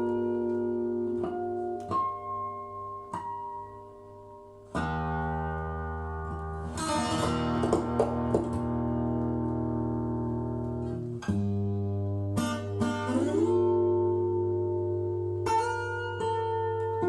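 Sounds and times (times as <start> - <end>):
instrumental music from vinyl record: 0.0 - 17.0
plucked notes: 0.0 - 17.0.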